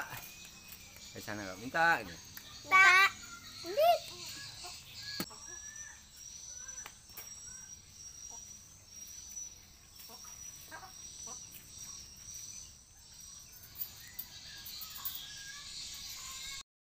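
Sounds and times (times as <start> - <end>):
high-pitched insect trill: 0.0 - 16.6.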